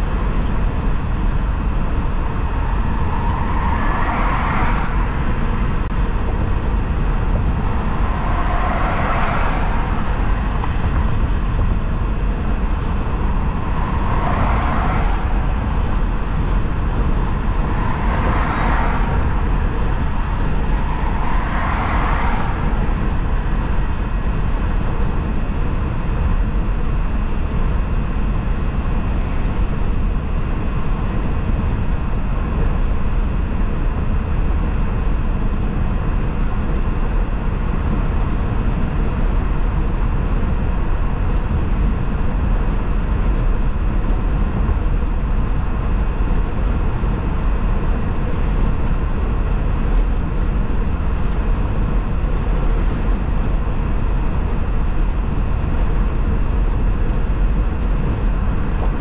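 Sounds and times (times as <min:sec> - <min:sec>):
tyre and wind noise: 0:00.0 - 0:59.0.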